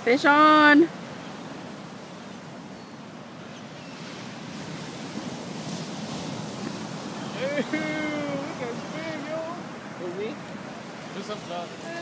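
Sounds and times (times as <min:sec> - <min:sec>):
ocean surf: 0:00.0 - 0:12.0
wind: 0:00.0 - 0:12.0.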